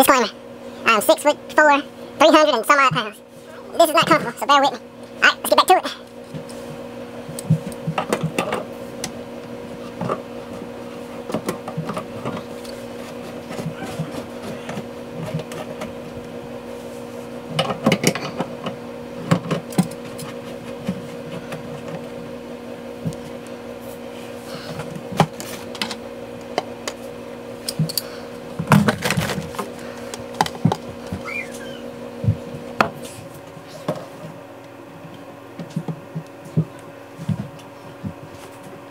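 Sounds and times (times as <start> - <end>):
steady hum: 0.0 - 38.9.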